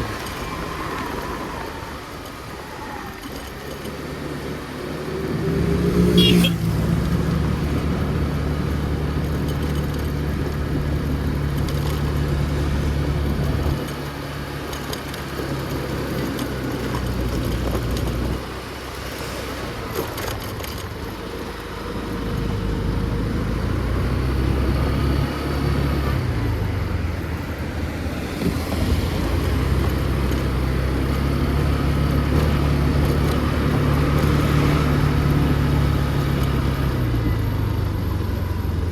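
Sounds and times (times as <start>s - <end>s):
motor scooter engine running: 3.2s - 18.8s, 19.6s - 38.9s.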